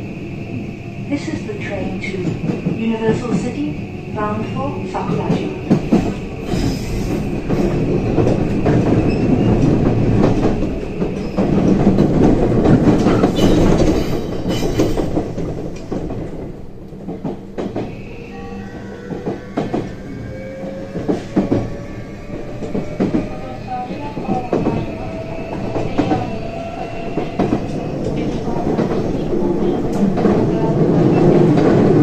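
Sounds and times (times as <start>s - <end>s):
wheel and rail rumble: 0.0s - 32.0s
rail-joint clacks: 1.2s - 18.0s, 18.8s - 32.0s.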